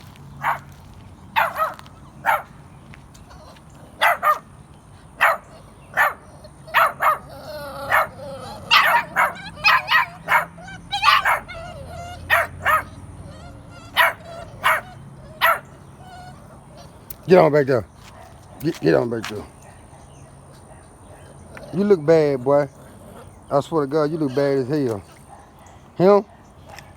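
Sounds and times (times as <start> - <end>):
puppies yapping: 0.0 - 26.9
puppies whining: 0.3 - 17.7, 19.6 - 26.9.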